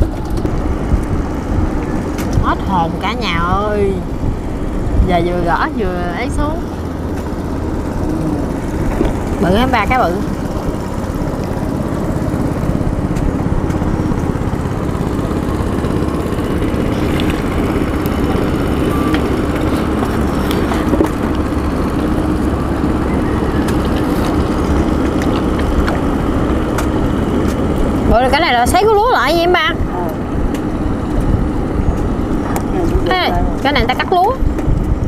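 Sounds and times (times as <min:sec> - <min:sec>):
small boat engine running: 0:00.0 - 0:35.0.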